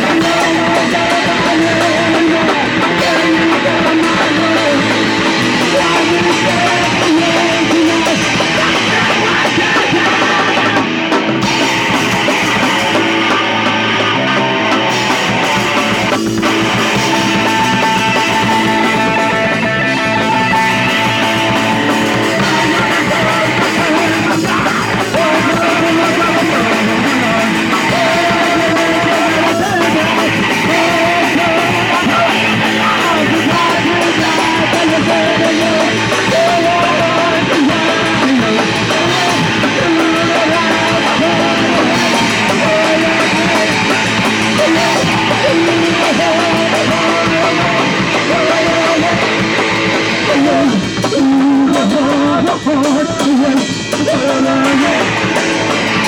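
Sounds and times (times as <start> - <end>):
distorted electric guitar: 0.0 - 56.0
drums: 0.0 - 56.0.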